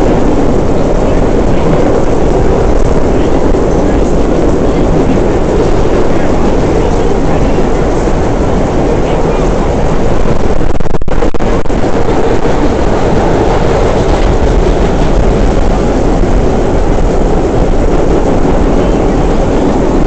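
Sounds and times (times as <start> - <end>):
subway train running on rails: 0.0 - 20.0.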